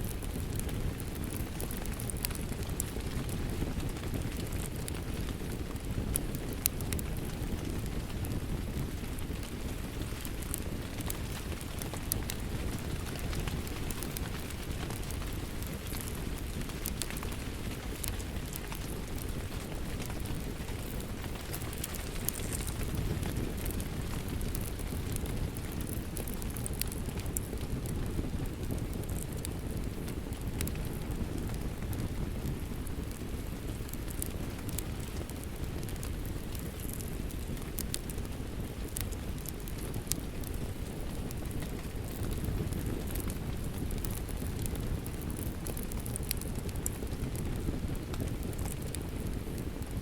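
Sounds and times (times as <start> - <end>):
fire crackling: 0.0 - 50.0
steady rain: 0.0 - 50.0.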